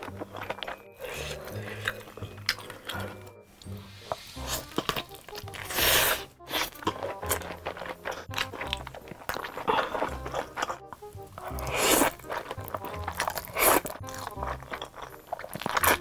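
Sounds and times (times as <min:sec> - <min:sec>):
background music: 0:00.0 - 0:16.0
chewing with full mouth: 0:00.0 - 0:16.0
crunchy bites: 0:00.0 - 0:16.0.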